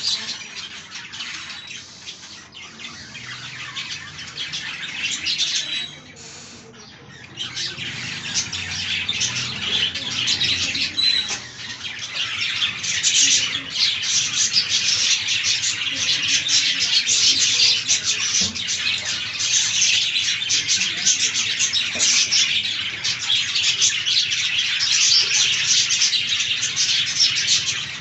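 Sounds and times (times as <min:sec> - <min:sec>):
budgies chattering and chirping: 0:00.0 - 0:28.0.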